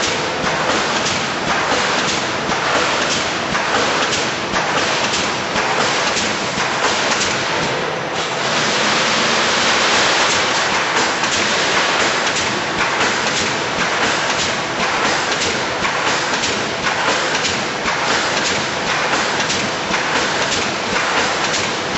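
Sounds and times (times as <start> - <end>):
welding machine hissing and clattering: 0.0 - 21.9.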